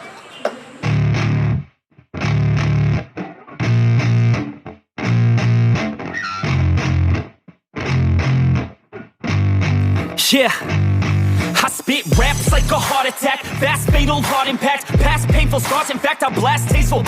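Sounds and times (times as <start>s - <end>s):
bass guitar: 0.8s - 17.0s
distorted electric guitar riff: 0.8s - 17.0s.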